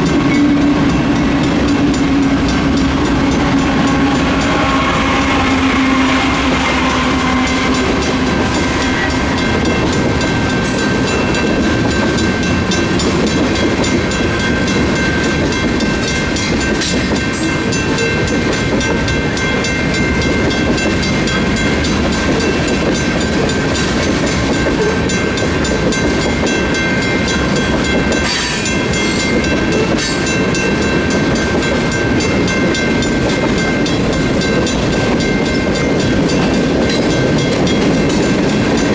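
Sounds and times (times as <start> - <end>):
crossing warning bells ringing: 0.0 - 38.9
freight train wheels clacking: 0.0 - 38.9.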